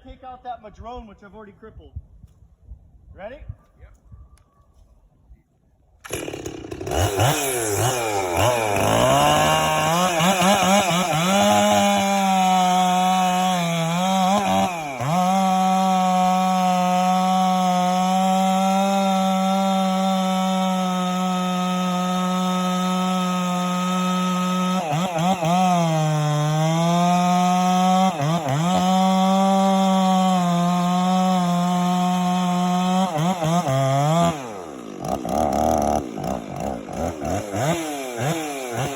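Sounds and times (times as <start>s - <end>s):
chainsaw revving and cutting: 6.0s - 38.9s.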